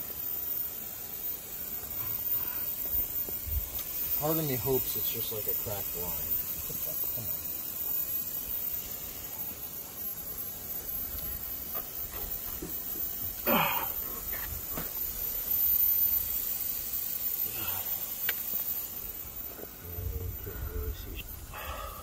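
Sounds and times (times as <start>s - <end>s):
steam hissing off engine: 0.0s - 22.0s.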